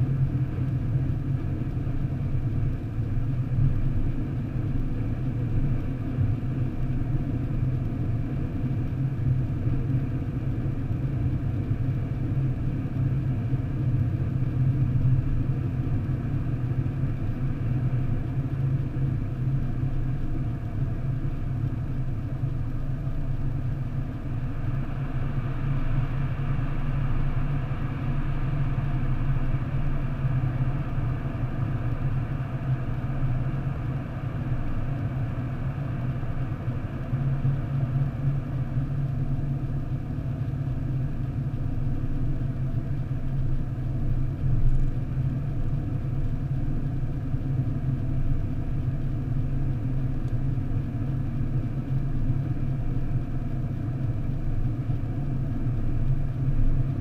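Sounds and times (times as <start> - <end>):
car engine and tyre road noise: 0.0 - 51.8.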